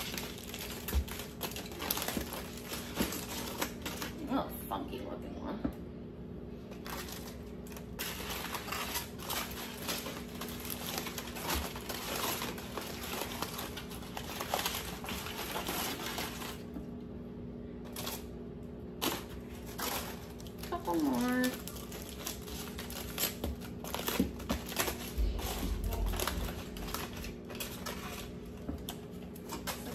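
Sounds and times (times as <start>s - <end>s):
potatoes crinkling and clicking: 0.0s - 4.5s, 6.7s - 17.0s, 17.8s - 29.9s
steady low hum: 0.0s - 29.9s.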